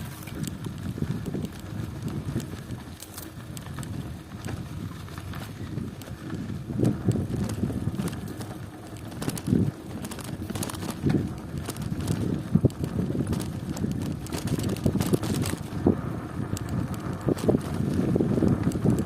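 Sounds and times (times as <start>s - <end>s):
bicycle clicks and rattles: 0.0s - 19.0s
wind buffeting microphone: 0.0s - 19.0s.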